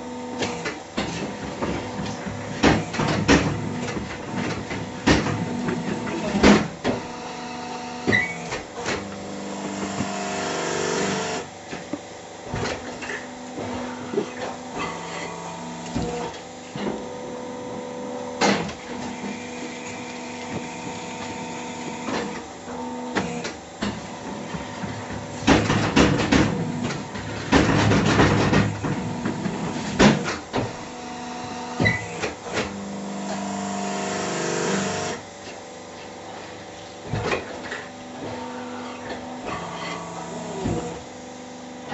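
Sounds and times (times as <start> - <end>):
hydraulic machine whine: 0.0 - 41.9.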